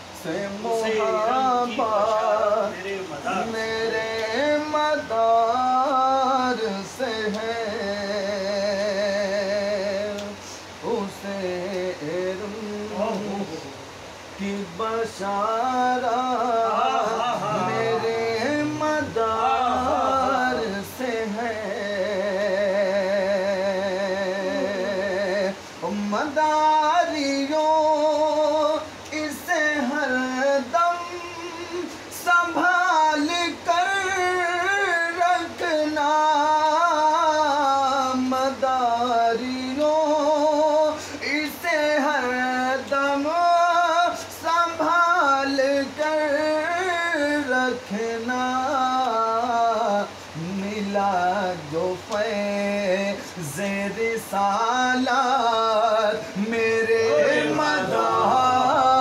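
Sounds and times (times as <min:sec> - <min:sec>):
man singing devotional song: 0:00.0 - 0:59.0.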